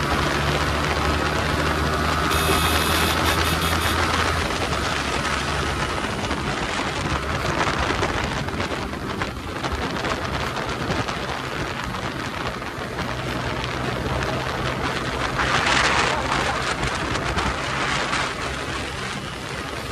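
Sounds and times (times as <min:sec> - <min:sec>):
motorcycle engine humming: 0:00.0 - 0:19.9
wind rushing over microphone: 0:00.0 - 0:19.9.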